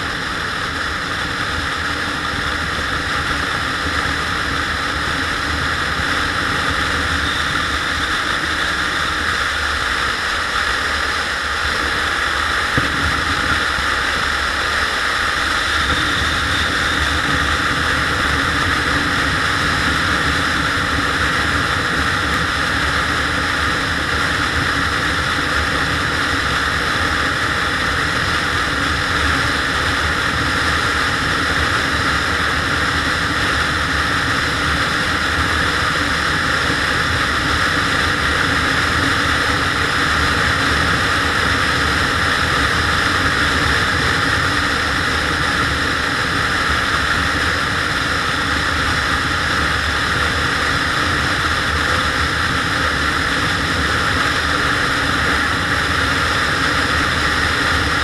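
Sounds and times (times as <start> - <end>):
road noise: 0.0 - 58.0
wind rush: 0.0 - 58.0.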